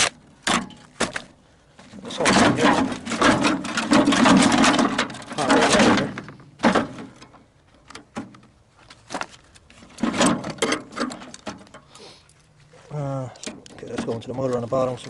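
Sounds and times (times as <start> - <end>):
metal parts clunking and clicking: 0.0 - 1.3, 1.9 - 12.5, 13.3 - 15.0
metal parts scraping and rattling: 0.0 - 15.0.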